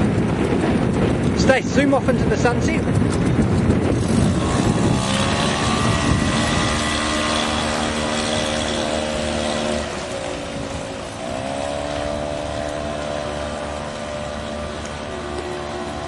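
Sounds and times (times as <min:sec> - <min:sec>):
small boat motor running: 0:00.0 - 0:16.0.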